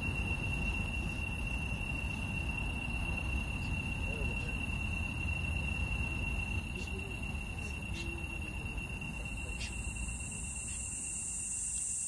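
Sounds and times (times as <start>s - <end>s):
hissing insect chorus: 0.0s - 12.0s
insect high-pitched trill: 0.0s - 12.0s.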